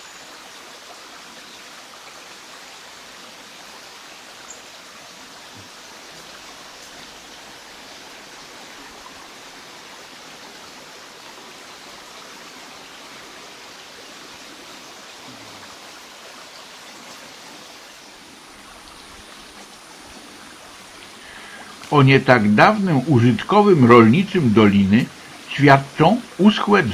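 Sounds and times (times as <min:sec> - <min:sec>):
brook flowing: 0:00.0 - 0:26.9.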